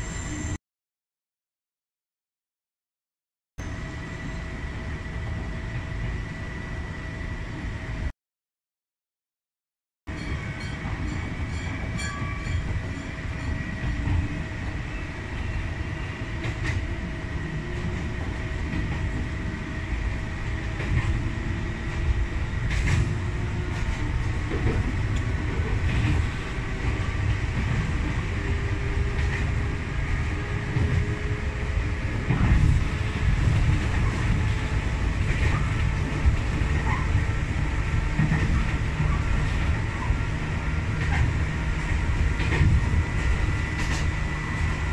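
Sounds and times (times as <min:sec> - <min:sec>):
train wheels rumbling on rail: 0:03.6 - 0:08.1, 0:10.1 - 0:44.9.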